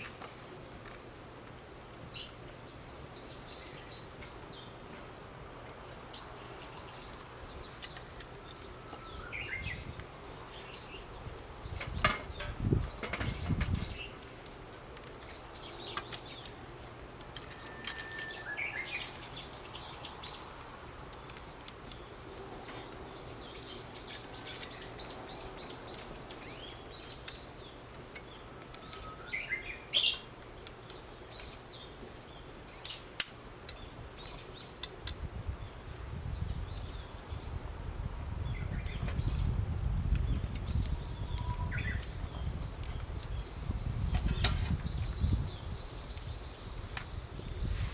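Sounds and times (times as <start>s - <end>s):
birds chirping: 2.1s - 14.3s, 15.2s - 35.0s, 40.1s - 47.7s.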